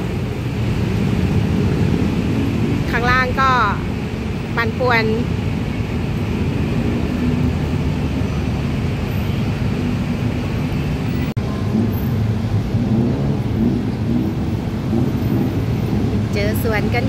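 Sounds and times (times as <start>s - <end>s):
dense road traffic: 0.0s - 17.0s.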